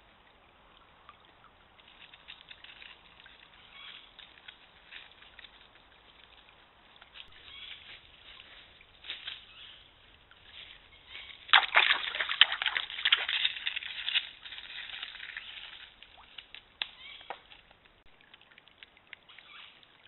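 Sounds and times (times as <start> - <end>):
deer splashing through water: 0.9 - 20.0.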